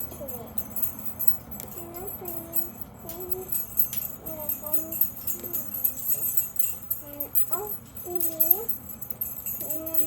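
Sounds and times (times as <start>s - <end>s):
plastic toy keys jingling: 0.0s - 10.0s.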